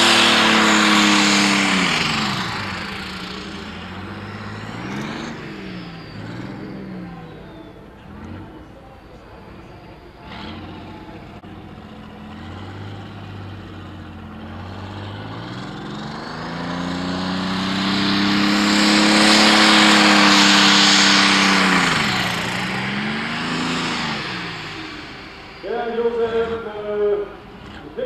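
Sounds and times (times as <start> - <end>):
tractor diesel engine revving: 0.0 - 28.0.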